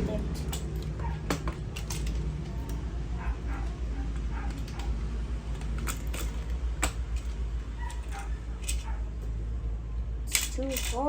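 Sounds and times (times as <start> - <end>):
toy parts creaking and scraping: 0.0 - 9.0, 10.3 - 11.0.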